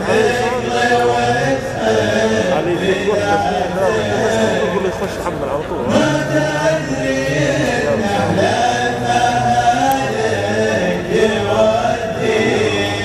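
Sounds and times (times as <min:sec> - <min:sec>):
men chanting a song: 0:00.0 - 0:13.0.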